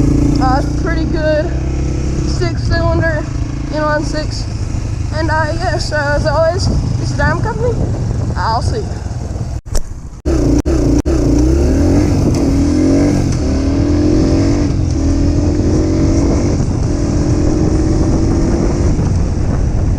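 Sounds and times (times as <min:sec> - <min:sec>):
dirt bike engine accelerating: 0:00.0 - 0:08.4, 0:09.0 - 0:19.9.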